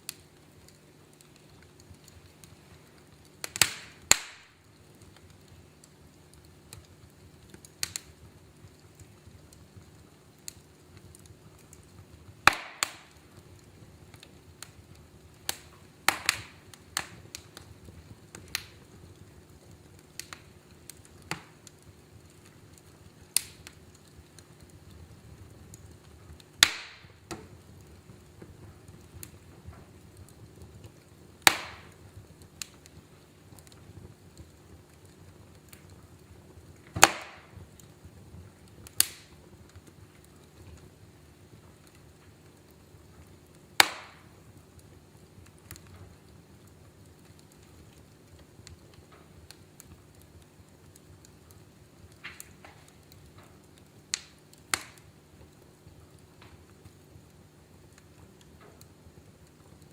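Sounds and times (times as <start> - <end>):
fire crackling and popping: 0.0 - 59.9
low hiss of burning: 0.0 - 59.9.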